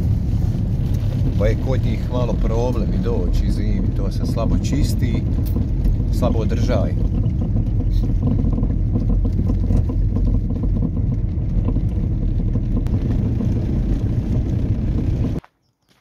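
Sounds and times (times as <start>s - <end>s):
car engine and tyre rumble: 0.0s - 15.5s.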